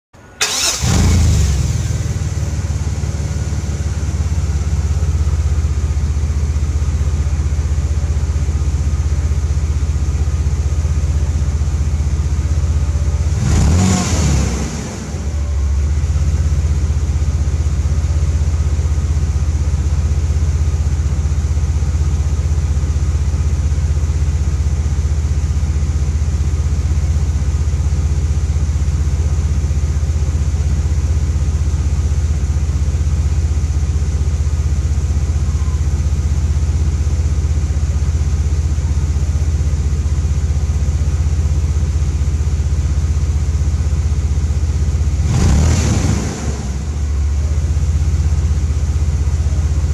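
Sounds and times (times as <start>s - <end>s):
engine idling: 0.1s - 49.9s
supercharger whine: 0.2s - 49.9s.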